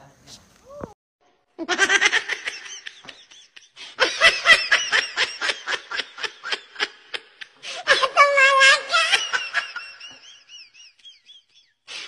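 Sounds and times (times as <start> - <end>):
person laughing hard: 1.6 - 12.0.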